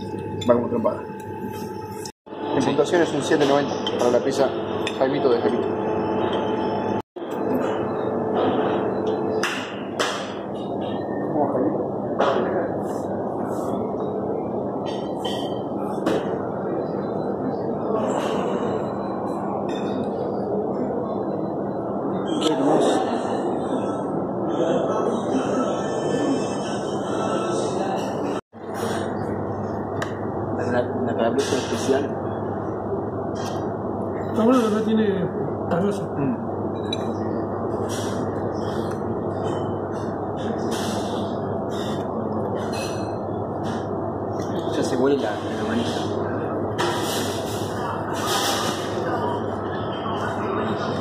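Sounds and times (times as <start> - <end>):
restaurant dining room noise: 0.0 - 51.0.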